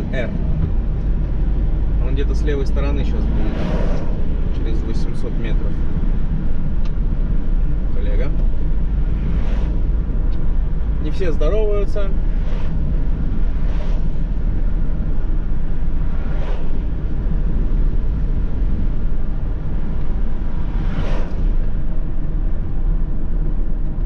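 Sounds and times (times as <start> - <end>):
vehicles swishing past: 0.0 - 23.9
van engine and tyre rumble: 0.0 - 24.0.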